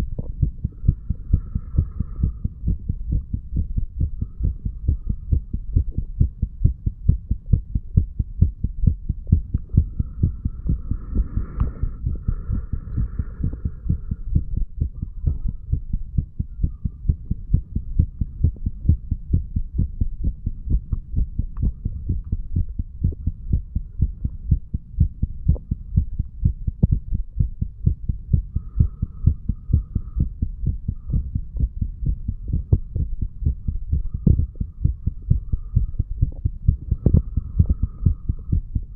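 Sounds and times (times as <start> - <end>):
low heartbeat: 0.0 - 38.9.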